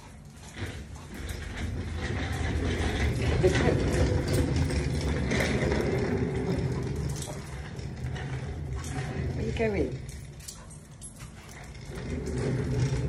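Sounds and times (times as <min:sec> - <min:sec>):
chair casters rolling on hard floor: 0:00.0 - 0:13.0.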